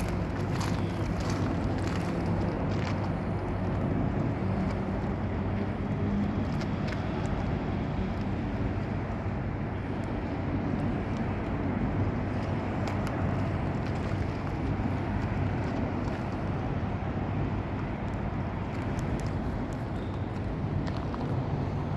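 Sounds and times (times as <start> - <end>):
outdoor background rumble: 0.0 - 21.9.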